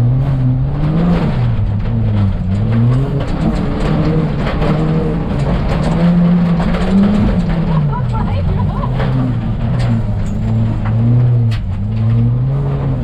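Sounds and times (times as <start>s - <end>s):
rally car engine revving: 0.0s - 13.0s
tyre and road noise: 0.0s - 13.0s.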